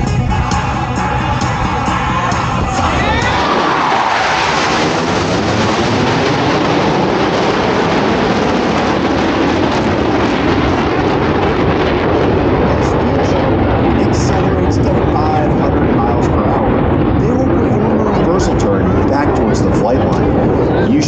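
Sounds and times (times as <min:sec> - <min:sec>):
jet engines passing low: 0:00.0 - 0:21.0.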